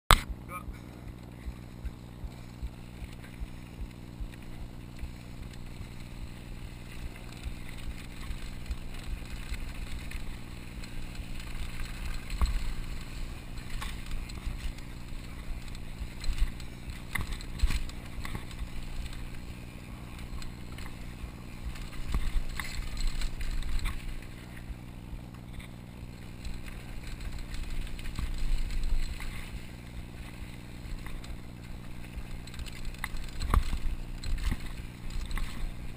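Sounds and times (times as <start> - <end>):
bike tyres on dirt: 0.1 - 35.9
bike frame and chain rattling: 1.3 - 24.7, 25.4 - 35.9.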